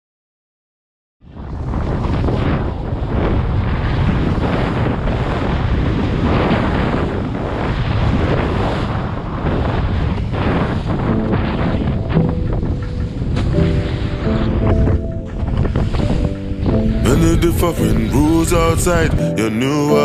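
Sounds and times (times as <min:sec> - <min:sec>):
wind buffeting microphone: 0:01.2 - 0:19.3
sea water rushing: 0:01.4 - 0:20.0.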